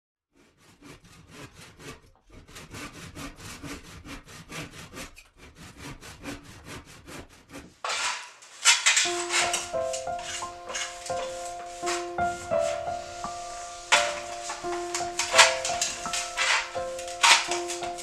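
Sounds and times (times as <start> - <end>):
hand saw cutting wood: 0.3 - 18.0.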